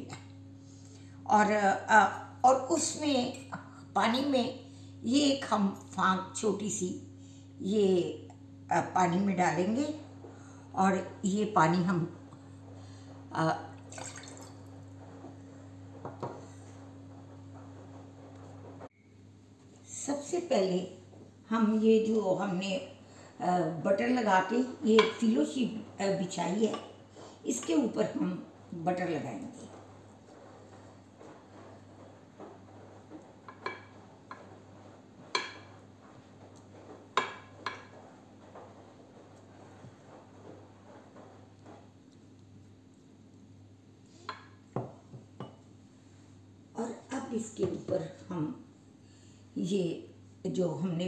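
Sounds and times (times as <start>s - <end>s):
low kitchen hum: 0.0s - 51.0s.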